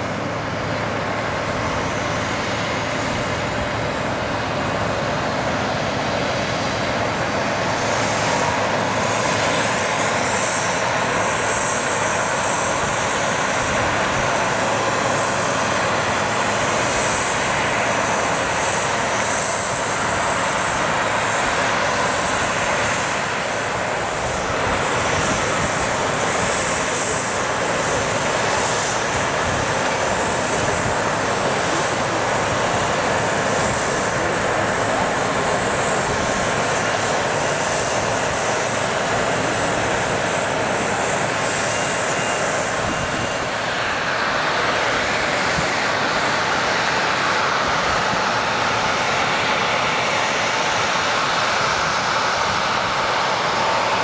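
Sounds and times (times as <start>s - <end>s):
high engine whine: 0.0s - 54.0s
jet engines on runway: 0.0s - 54.0s.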